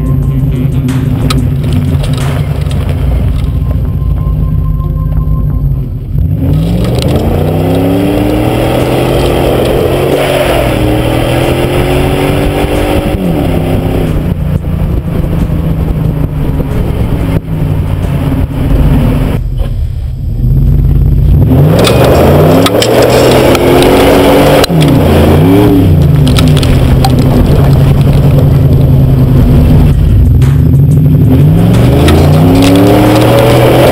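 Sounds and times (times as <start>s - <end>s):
engine exhaust accelerating: 0.0s - 33.9s.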